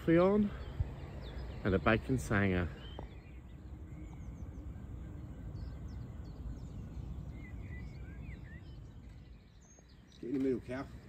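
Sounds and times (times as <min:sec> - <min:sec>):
bird chirps: 0:00.0 - 0:11.0
low background rumble: 0:00.0 - 0:11.0.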